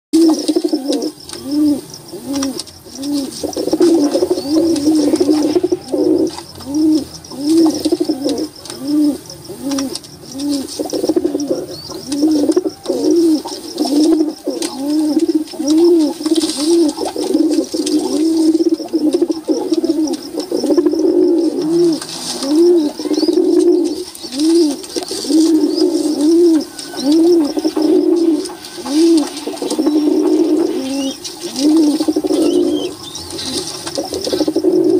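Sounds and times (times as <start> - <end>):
pigeons cooing: 0.2 - 34.9.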